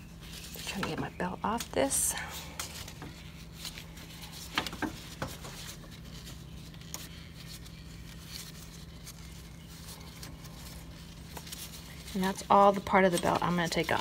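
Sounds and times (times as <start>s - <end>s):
steady low hum: 0.0s - 14.0s
belt rustling and scraping: 1.6s - 14.0s.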